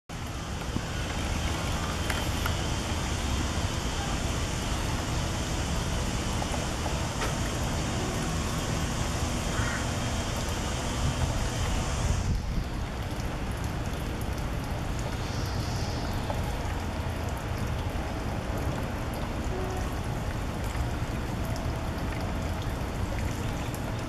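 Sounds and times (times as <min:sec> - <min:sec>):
rushing background noise: 0:00.1 - 0:24.0.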